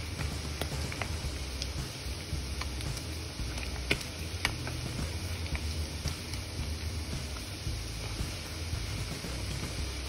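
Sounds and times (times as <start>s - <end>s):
deep-frying sizzle: 0.0s - 10.0s
low steady hum: 0.0s - 10.0s
oil crackling and popping: 0.0s - 10.0s.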